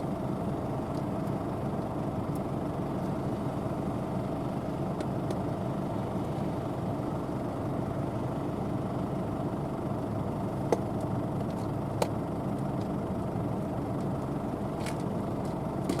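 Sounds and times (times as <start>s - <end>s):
combine harvester running: 0.0s - 16.0s.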